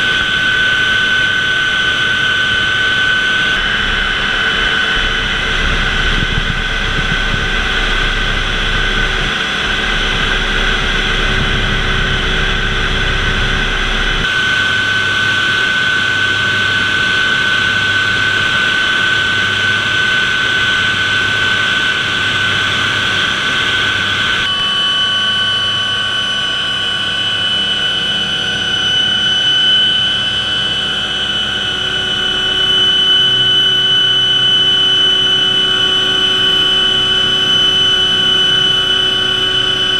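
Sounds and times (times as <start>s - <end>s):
helicopter engine and rotor drone: 0.0s - 39.9s
helicopter engine whine: 0.0s - 39.9s.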